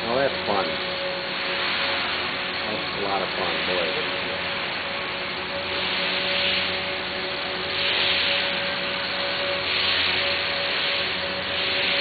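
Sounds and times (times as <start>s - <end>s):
helicopter motor whine: 0.0s - 12.0s
pulsing hiss: 0.0s - 12.0s.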